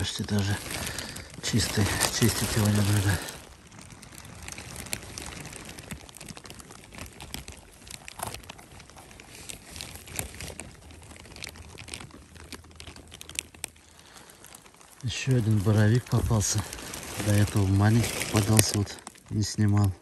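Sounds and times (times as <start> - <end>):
dry lichen and needles crunching: 0.0 - 20.0
plastic cape rustling: 0.0 - 20.0.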